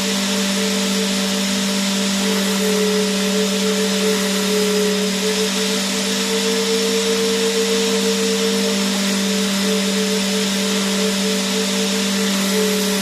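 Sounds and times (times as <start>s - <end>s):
vacuum cleaner motor running: 0.0s - 13.0s.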